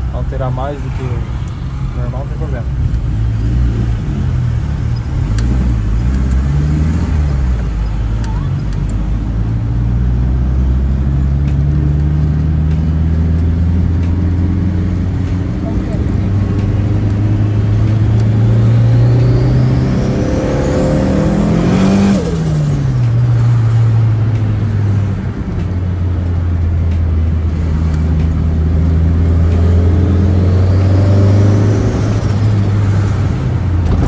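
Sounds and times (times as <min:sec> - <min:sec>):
turbocharged engine accelerating: 0:00.0 - 0:34.0.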